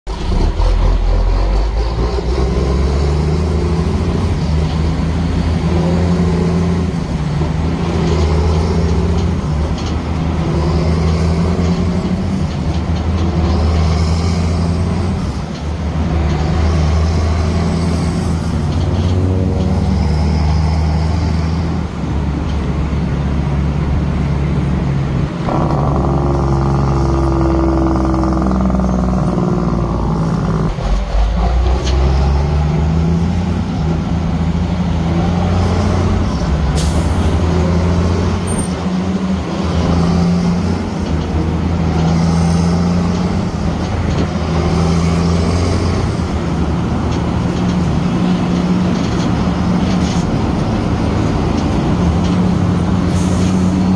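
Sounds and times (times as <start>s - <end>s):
road noise: 0.0s - 53.9s
vehicle engine drone: 0.0s - 53.9s.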